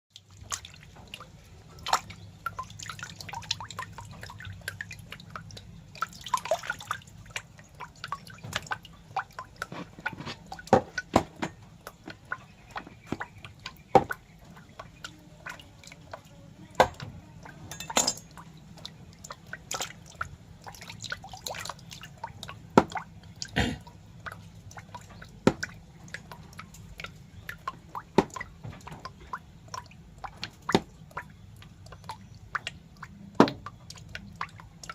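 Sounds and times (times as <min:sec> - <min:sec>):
wet clicks and drips: 0:00.1 - 0:34.9.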